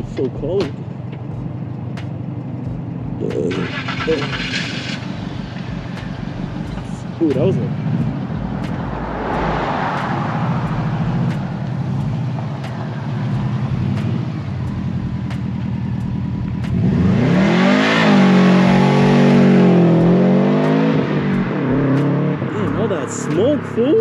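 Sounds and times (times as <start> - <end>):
car engine revving: 0.0 - 24.0
passing car: 0.0 - 24.0.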